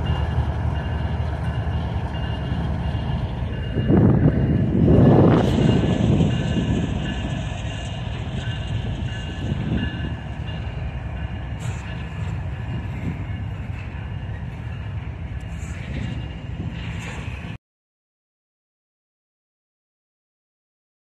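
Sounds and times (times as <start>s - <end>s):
train wheels rumbling on rail: 0.0s - 17.6s.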